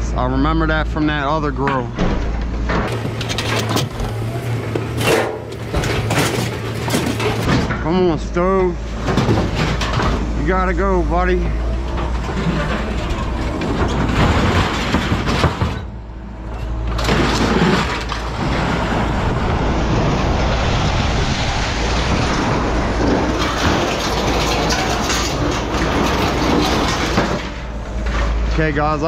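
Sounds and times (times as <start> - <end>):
low rumble: 0.0 - 29.0
metal junk scraping and crashing: 1.6 - 29.0.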